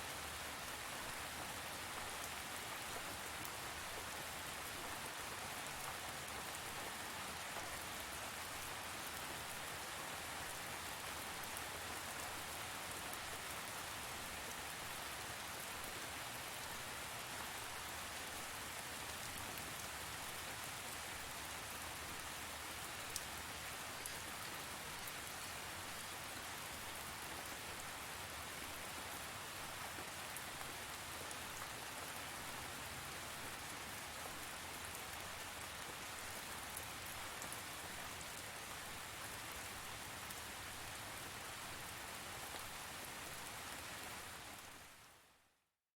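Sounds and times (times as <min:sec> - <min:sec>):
rain falling on a surface: 0:00.0 - 0:45.6.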